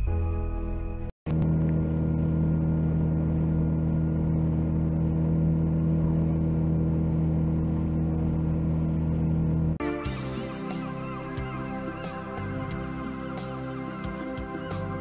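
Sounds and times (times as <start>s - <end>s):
boat motor humming: 1.3s - 15.0s.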